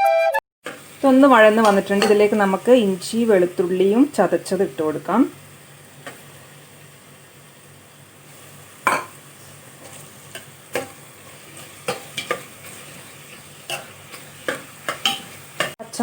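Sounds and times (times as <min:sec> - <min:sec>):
onions sizzling in pot: 0:00.6 - 0:16.0.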